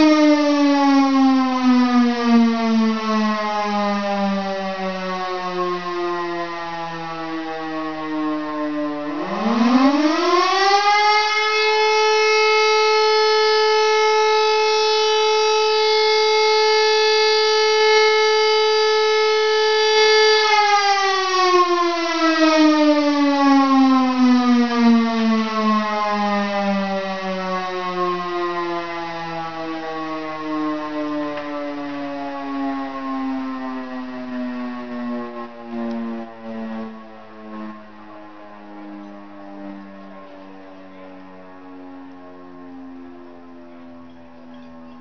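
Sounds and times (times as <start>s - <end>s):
civil defence siren wailing: 0.0s - 45.0s.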